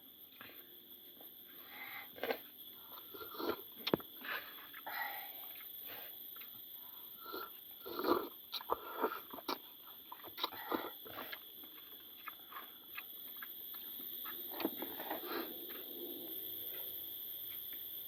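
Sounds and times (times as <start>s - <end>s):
chewing: 2.2s - 16.9s.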